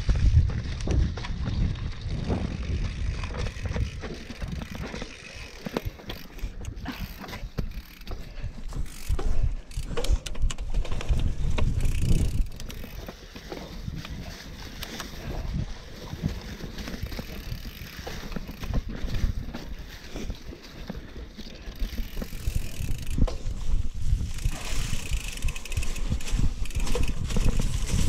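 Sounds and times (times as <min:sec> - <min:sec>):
wind rumble on microphone: 0:00.0 - 0:20.4, 0:21.7 - 0:28.0
bike rattling over bumps: 0:00.0 - 0:28.0.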